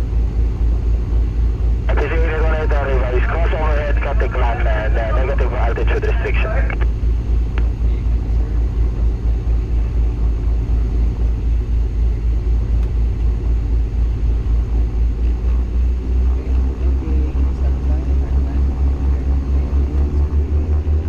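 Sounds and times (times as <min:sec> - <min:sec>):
piston aircraft engines droning: 0:00.0 - 0:21.0.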